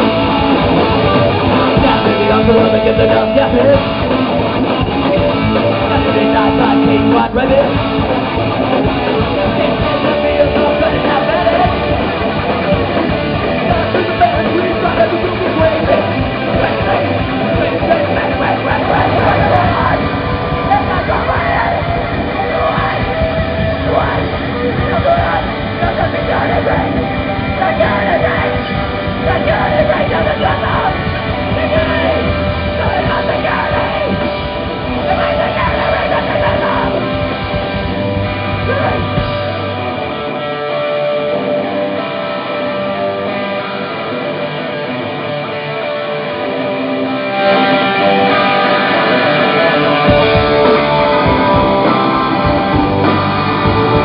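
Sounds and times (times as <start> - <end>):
punk rock band playing live: 0.0 - 54.0.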